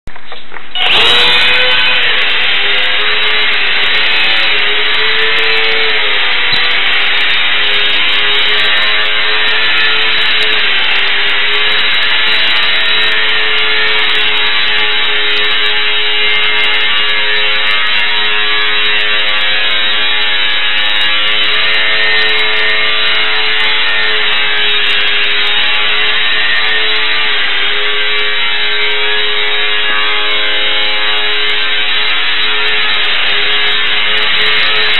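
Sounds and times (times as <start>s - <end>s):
electric motor propeller whine: 0.8s - 34.9s.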